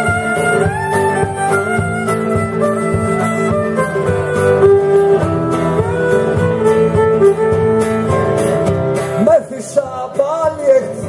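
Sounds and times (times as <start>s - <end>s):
violin melody with sliding notes: 0.0s - 9.4s
plucked guitar and bouzouki: 0.0s - 11.0s.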